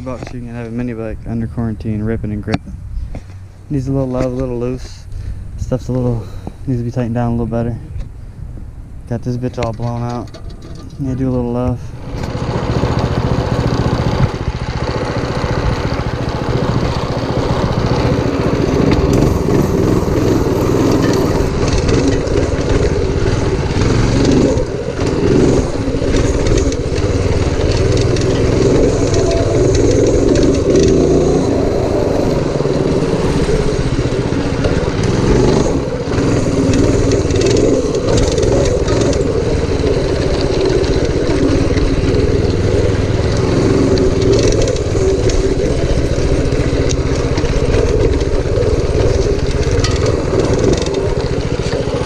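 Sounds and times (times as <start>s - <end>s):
minibike engine running: 9.6s - 52.0s.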